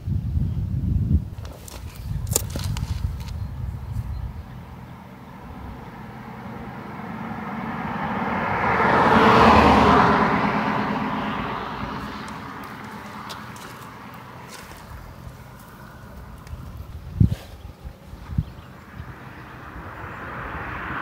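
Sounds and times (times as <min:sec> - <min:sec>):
car passing on asphalt: 0:01.4 - 0:21.0.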